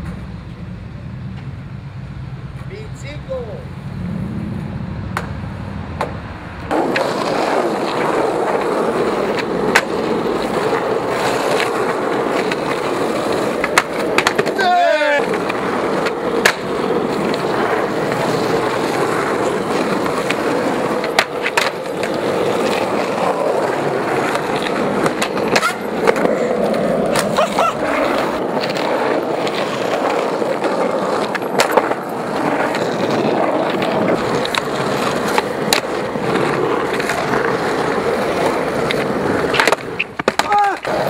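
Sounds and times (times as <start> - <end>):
skateboard wheels on asphalt: 0.0 - 41.0
skateboard clacks: 5.1 - 41.0.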